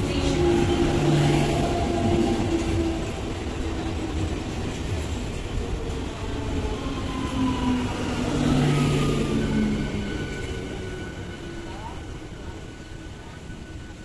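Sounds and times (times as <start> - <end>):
electric train hum: 0.0 - 14.0
train coaches rumbling: 0.0 - 14.0.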